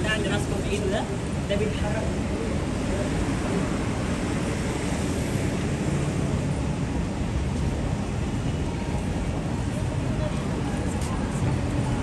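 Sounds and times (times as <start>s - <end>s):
busy city street noise: 0.0s - 12.0s.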